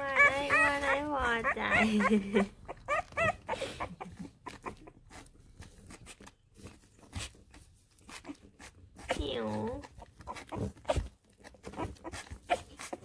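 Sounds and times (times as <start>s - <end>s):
puppy whimpering: 0.0s - 13.0s.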